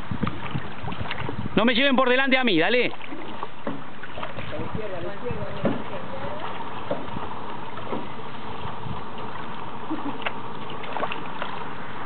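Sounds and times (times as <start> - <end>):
paddles splashing in water: 0.0 - 12.0.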